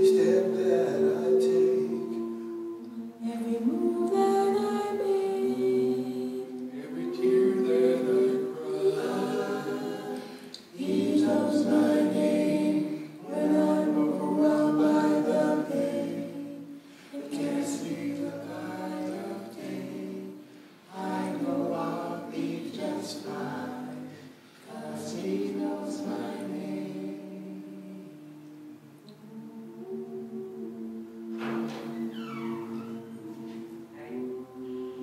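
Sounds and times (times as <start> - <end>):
group singing a cappella: 0.0 - 35.0.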